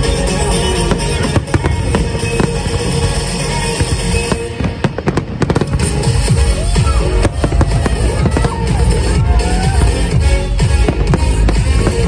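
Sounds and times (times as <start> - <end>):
fireworks bangs: 0.0 - 12.0
music: 0.0 - 12.0.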